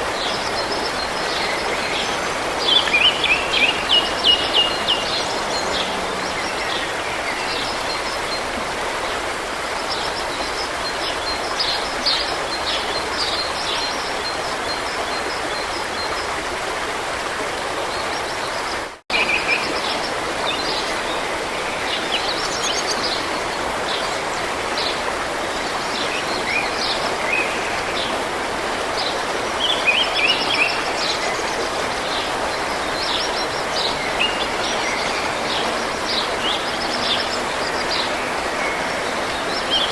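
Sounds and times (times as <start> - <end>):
forest stream running: 0.0 - 39.9.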